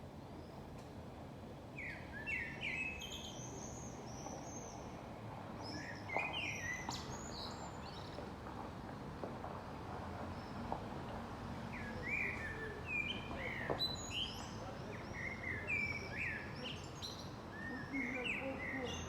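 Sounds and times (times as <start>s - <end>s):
songbirds chirping: 1.6s - 19.0s.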